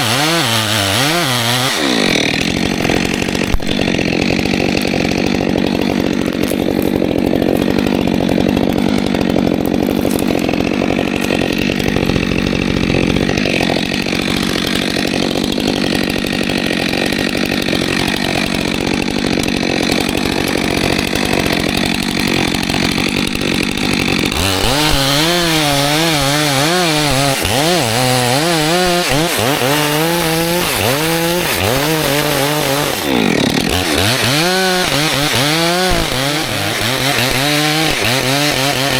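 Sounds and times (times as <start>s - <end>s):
chainsaw cutting at full throttle: 0.0s - 38.9s.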